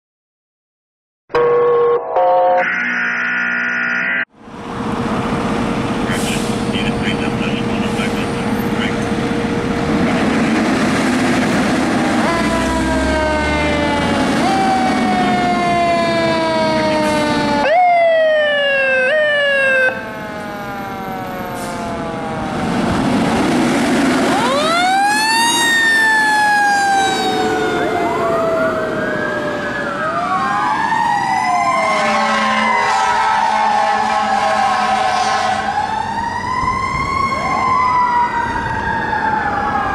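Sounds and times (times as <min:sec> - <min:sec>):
fire truck siren: 0:01.3 - 0:39.9.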